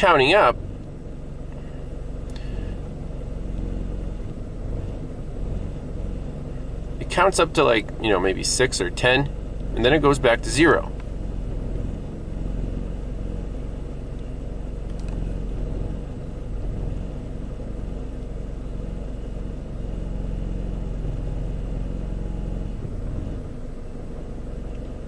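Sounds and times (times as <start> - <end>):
car engine idling with misfire: 0.0 - 25.0.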